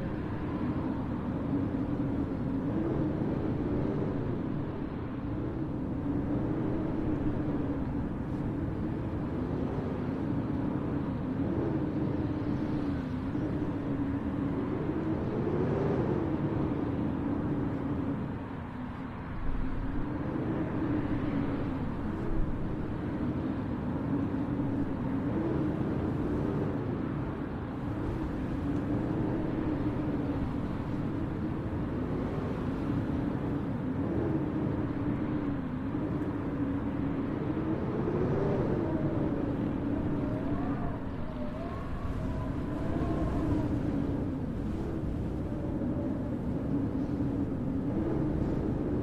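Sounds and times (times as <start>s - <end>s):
wavering hum: 0.0s - 49.0s.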